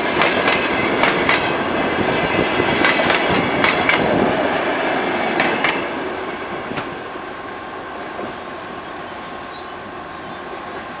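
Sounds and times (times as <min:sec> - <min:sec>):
train carriages rolling on rails: 0:00.0 - 0:11.0.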